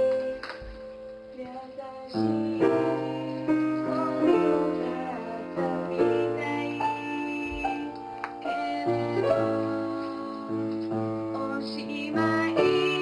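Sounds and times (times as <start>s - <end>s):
upright piano chords: 0.0s - 13.0s
woman singing: 1.3s - 13.0s.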